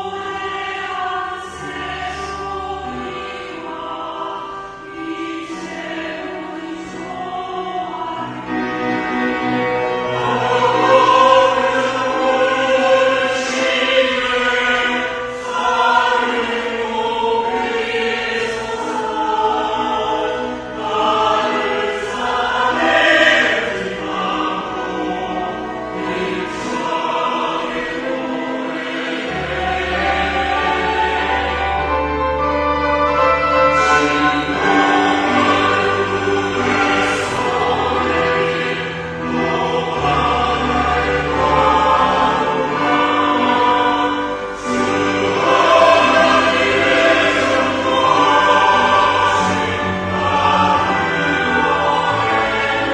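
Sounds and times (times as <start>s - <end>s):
church choir singing: 0.0s - 52.9s.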